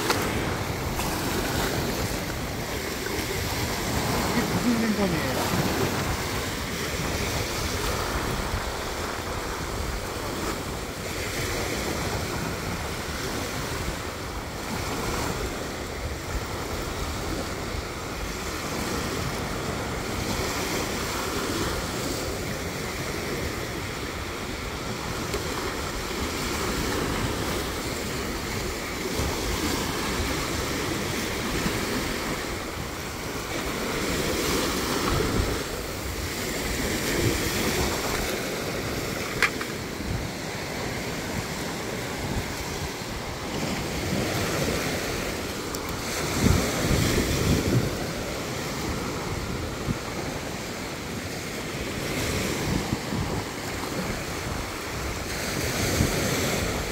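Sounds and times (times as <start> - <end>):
small waves washing on sandy shore: 0.0 - 56.9
wind rumbling on microphone: 0.0 - 56.9.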